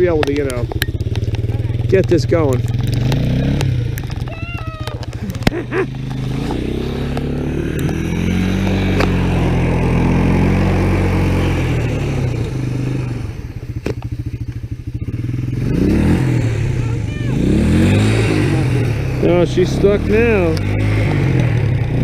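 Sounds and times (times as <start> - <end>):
three-wheeler engine revving: 0.0 - 22.0.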